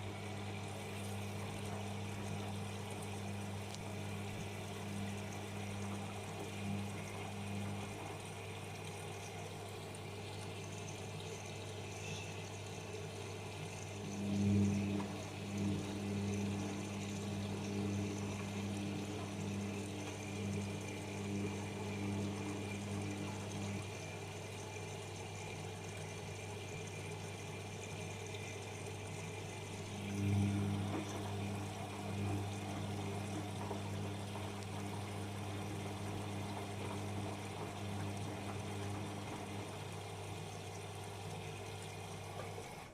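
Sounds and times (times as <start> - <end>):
louder washing machine hum: 0.0 - 42.9
washing machine humming: 0.0 - 42.9.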